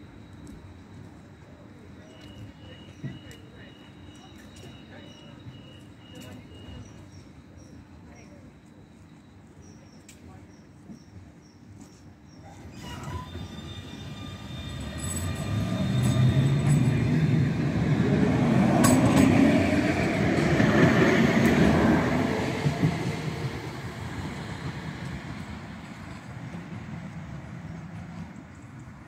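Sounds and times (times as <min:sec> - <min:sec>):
tram passing on rails: 0:00.0 - 0:29.0.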